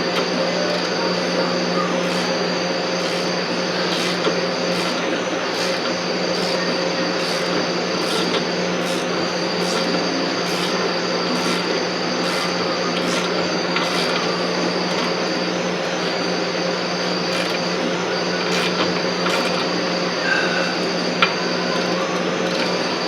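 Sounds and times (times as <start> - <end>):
machine running with low hum: 0.0 - 23.0.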